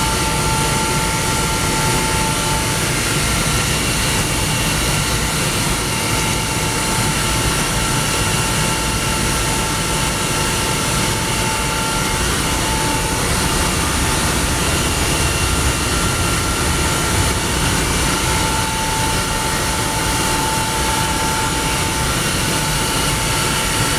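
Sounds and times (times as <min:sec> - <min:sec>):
air compressor running: 0:00.0 - 0:23.9.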